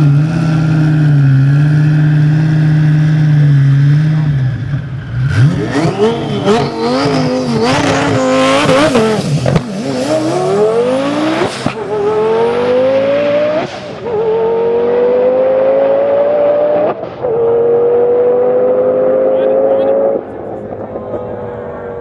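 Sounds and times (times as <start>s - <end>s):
race car accelerating with gear shifts: 0.0s - 22.0s.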